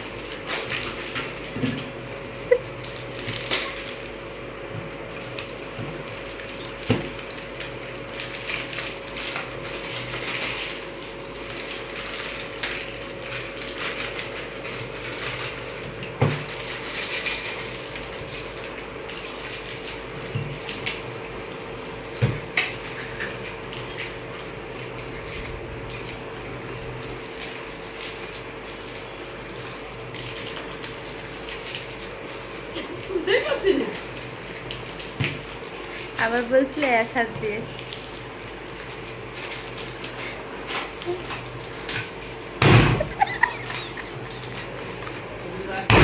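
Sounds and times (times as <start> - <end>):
food crunching: 0.0 - 45.4
plastic snack packets crinkling: 0.1 - 21.9, 22.6 - 42.4, 43.0 - 45.2.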